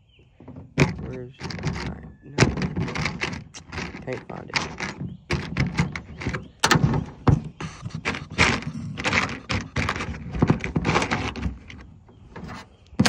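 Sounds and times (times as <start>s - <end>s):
hands rummaging through tools: 0.4s - 13.0s.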